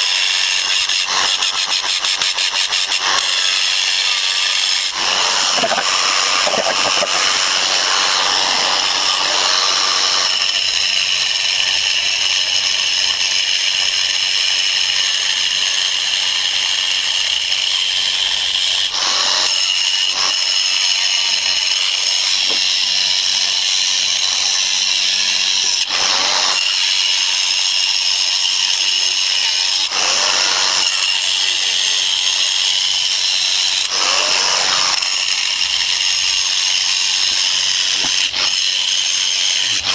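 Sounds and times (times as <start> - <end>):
power tool whining under load: 0.0 - 39.9.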